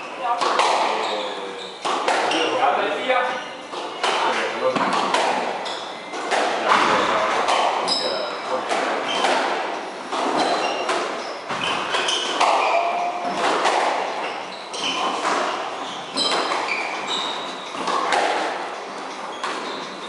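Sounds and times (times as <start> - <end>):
shoes squeaking on wooden floor: 0.0 - 20.0
racket hitting squash ball: 0.3 - 1.0, 1.7 - 2.6, 3.6 - 20.0.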